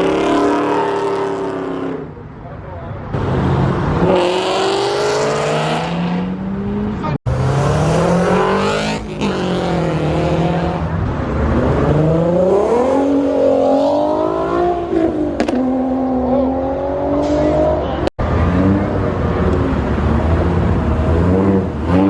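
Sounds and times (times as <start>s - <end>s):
car engines accelerating hard: 3.0s - 22.0s.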